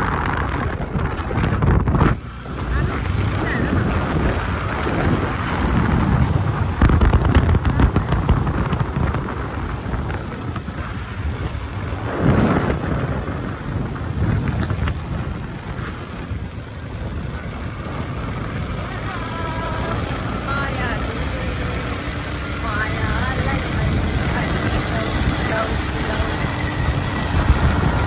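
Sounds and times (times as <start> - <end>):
motorcycle running: 0.0 - 28.0
road noise: 0.0 - 28.0
wind buffeting microphone: 0.0 - 28.0.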